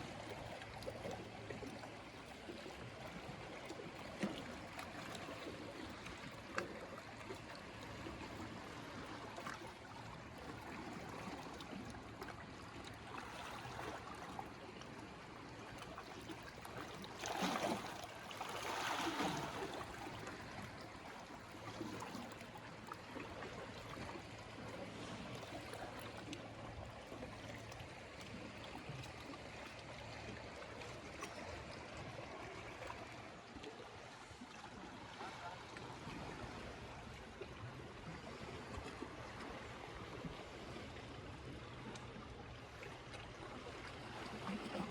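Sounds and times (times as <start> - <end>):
small wave washing: 0.0 - 44.9
water lapping at shoreline: 0.0 - 44.9.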